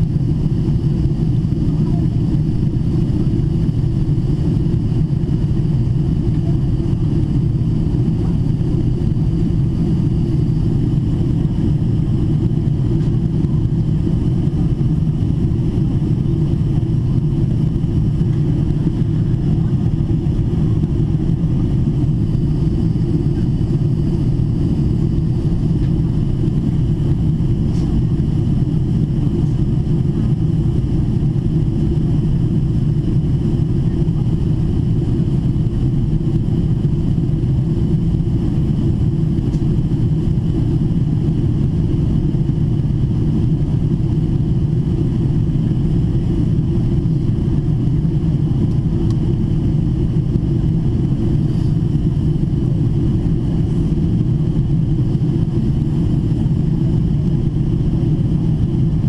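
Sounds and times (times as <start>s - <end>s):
airflow rumble: 0.0s - 59.0s
jet engine drone: 0.0s - 59.0s.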